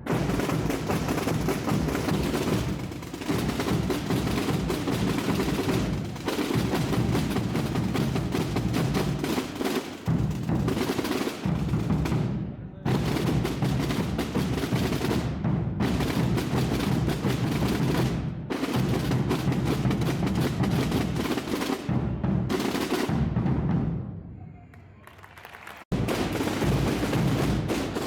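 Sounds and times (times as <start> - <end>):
massed drums rolling: 0.0 - 24.2, 25.9 - 28.0.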